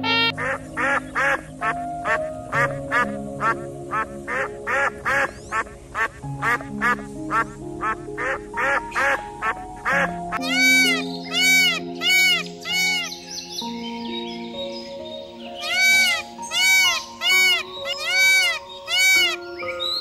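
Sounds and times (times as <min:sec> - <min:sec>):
duck quacking: 0:00.0 - 0:13.1, 0:15.6 - 0:19.4
background music with held notes: 0:00.0 - 0:20.0.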